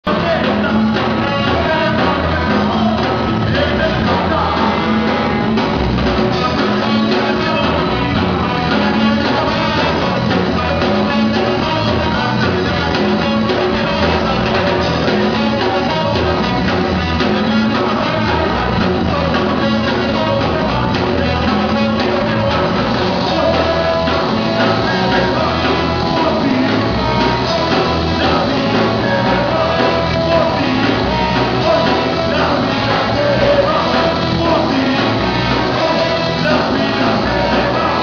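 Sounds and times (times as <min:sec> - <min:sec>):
drums: 0:00.0 - 0:38.0
guitars: 0:00.0 - 0:38.0
person singing: 0:00.0 - 0:38.0.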